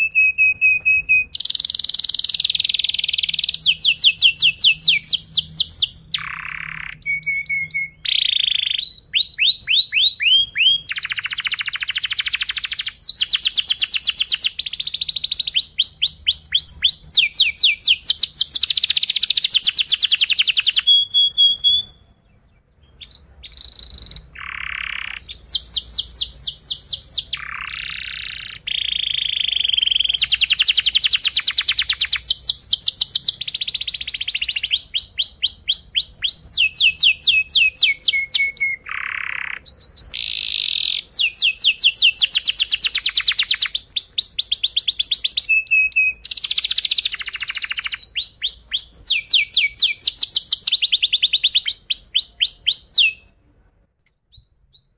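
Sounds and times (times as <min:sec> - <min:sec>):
canary singing trills: 0:00.0 - 0:53.3.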